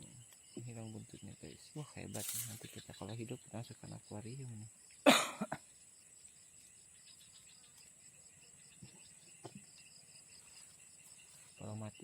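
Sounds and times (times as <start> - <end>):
insect chorus chirping: 0.0 - 12.0.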